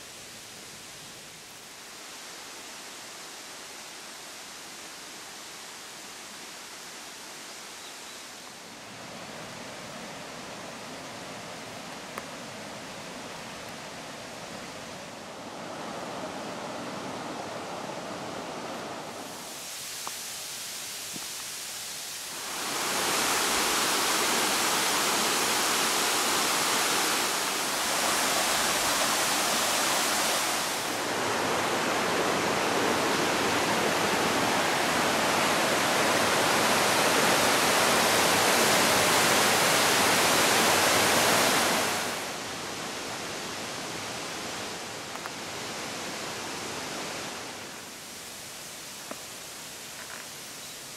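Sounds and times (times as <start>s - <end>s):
river flowing: 0.0s - 50.9s.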